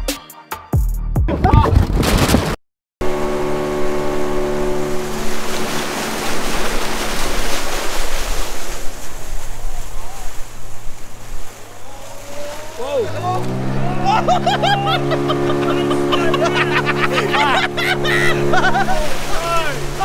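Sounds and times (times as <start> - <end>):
outboard motor running: 3.0 - 20.0
water splashing along hull: 3.0 - 20.0.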